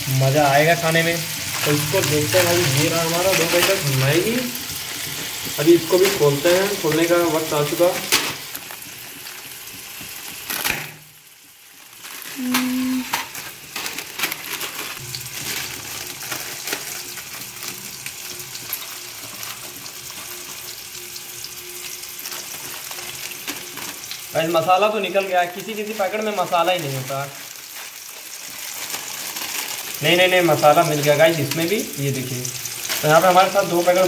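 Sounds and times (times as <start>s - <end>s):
vegetables sizzling in oil: 0.0s - 34.0s
plastic packets crinkling and tearing: 0.1s - 21.1s, 21.8s - 34.0s.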